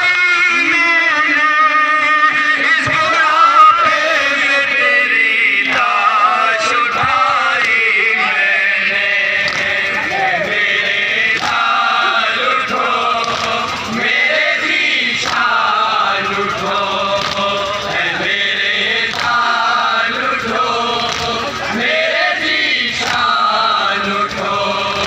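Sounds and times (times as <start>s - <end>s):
lead reciter chanting: 0.0s - 25.0s
men chanting in unison: 0.0s - 25.0s.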